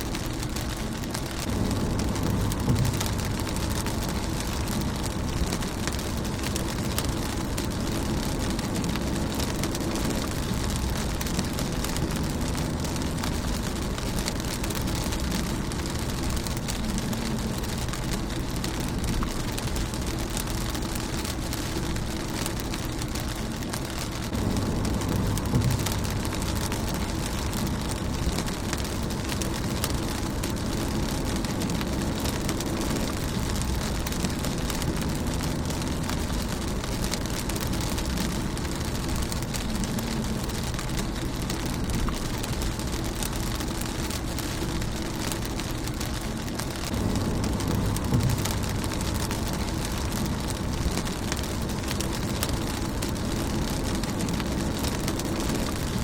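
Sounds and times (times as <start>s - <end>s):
low rumble: 0.0s - 56.0s
rain pattering on a car: 0.0s - 56.0s.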